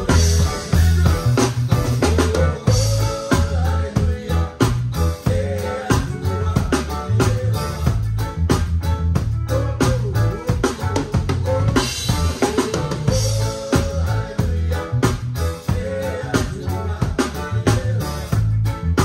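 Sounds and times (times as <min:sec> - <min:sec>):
bass line: 0:00.0 - 0:19.0
live band music: 0:00.0 - 0:19.0.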